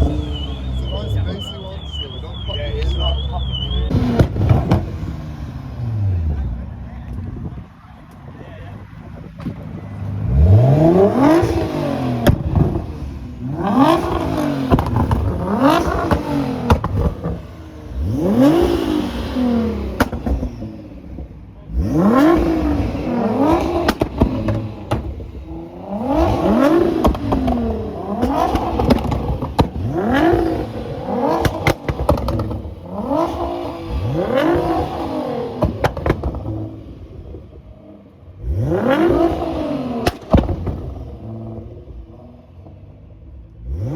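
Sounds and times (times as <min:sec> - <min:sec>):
exhaust pops and crackles: 0:00.0 - 0:05.2, 0:06.9 - 0:09.8, 0:11.3 - 0:37.6, 0:39.0 - 0:42.8
car engine revving: 0:00.0 - 0:43.9.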